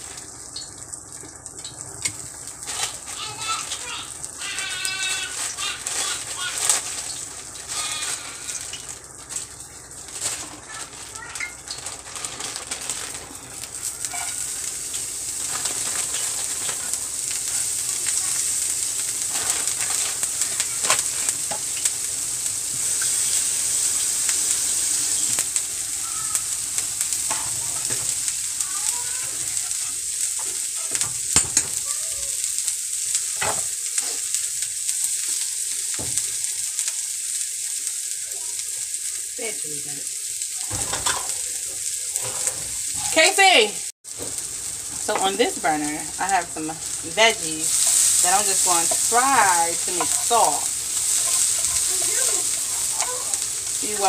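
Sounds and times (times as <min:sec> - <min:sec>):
oil sizzling in a pan: 0:00.0 - 0:54.0.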